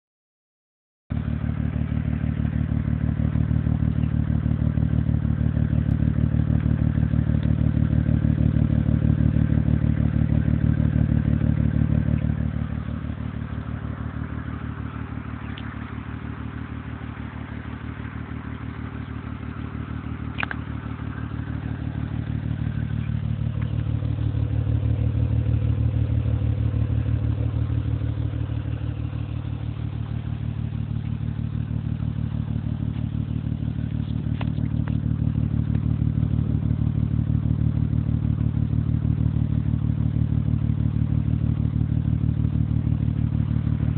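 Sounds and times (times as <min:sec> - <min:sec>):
car engine idling lumpily: 0:01.1 - 0:43.9.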